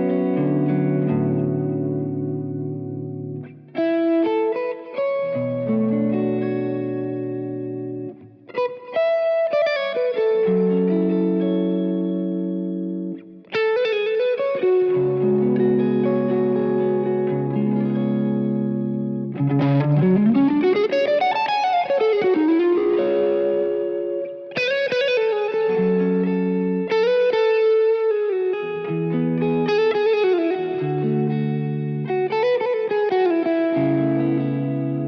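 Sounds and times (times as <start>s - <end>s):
electric guitar lead with bent notes: 0.0s - 35.0s
sustained guitar chords: 0.0s - 35.0s.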